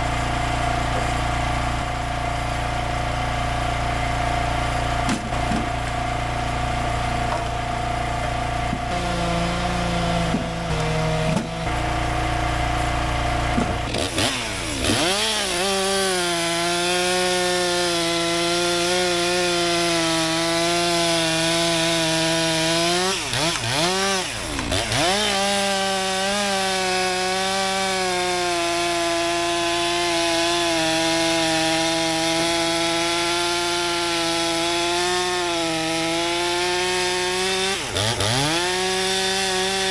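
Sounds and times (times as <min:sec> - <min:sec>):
chainsaw revving and cutting log: 0:00.0 - 0:39.9.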